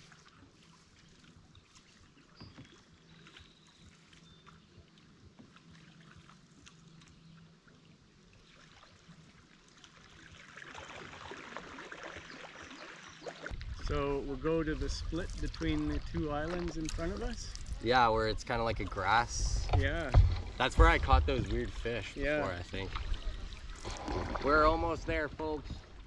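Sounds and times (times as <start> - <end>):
paddle strokes splashing: 0.0 - 26.0
water lapping: 0.0 - 26.0.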